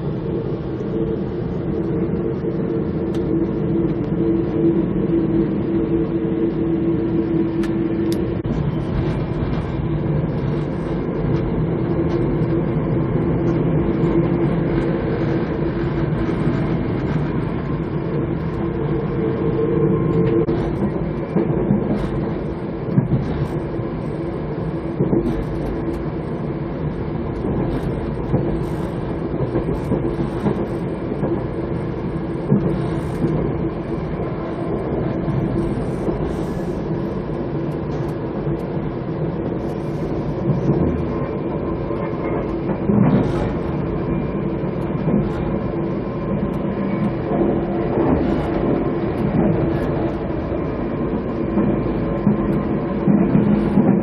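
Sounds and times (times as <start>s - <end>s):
constant hum: 0.0s - 54.0s
train wheels rumbling on rails: 0.0s - 54.0s.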